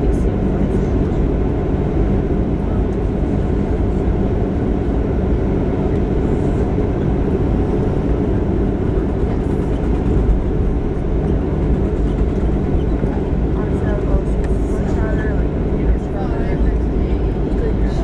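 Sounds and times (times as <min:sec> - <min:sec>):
airplane cabin rumble while taxiing: 0:00.0 - 0:18.0.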